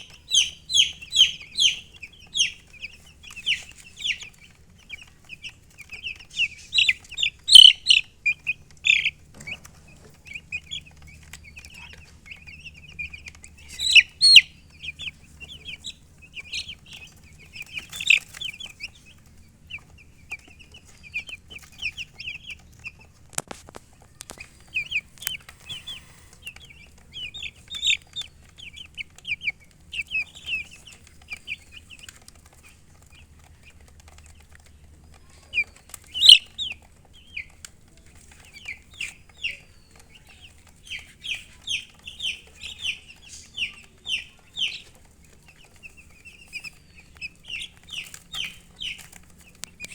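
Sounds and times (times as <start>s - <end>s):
baby chicks peeping: 0.0s - 49.9s.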